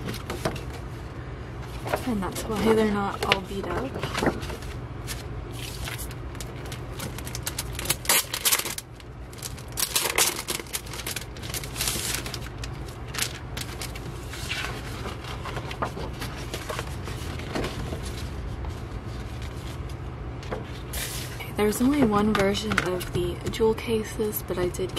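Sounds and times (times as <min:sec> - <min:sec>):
paper posters rustling: 0:00.0 - 0:23.3
low steady hum: 0:00.0 - 0:24.9.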